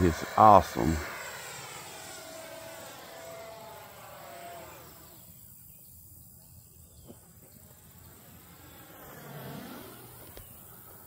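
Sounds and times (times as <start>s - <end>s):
model jet fan whine: 0.0s - 11.0s.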